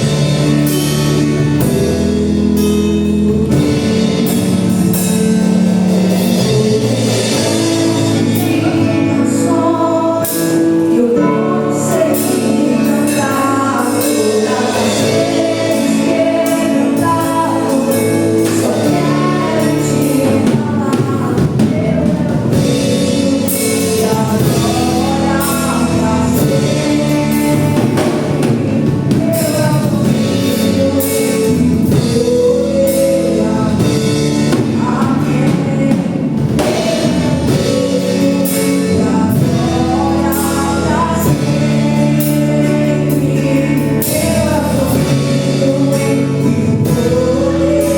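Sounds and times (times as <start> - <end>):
band with drum kit: 0.0 - 47.9
voices singing together: 6.2 - 47.9.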